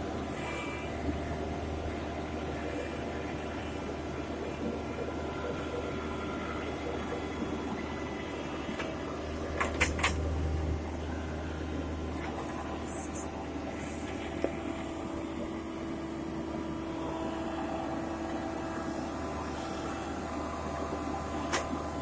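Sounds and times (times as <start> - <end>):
drilling rig engine humming: 0.0 - 22.0.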